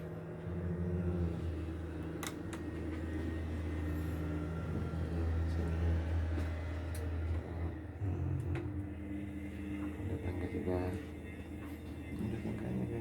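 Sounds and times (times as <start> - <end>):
boat machinery droning: 0.0 - 13.0.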